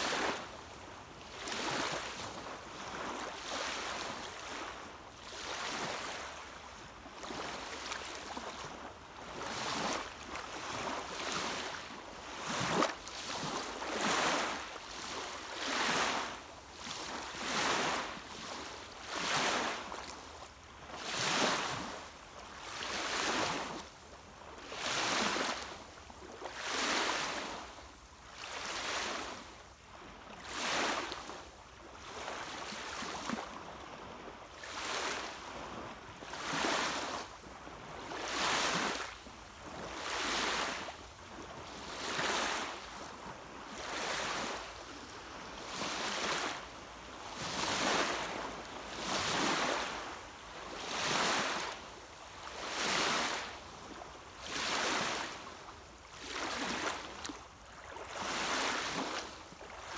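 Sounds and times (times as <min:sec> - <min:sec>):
small waves lapping on shore: 0:00.0 - 0:59.9.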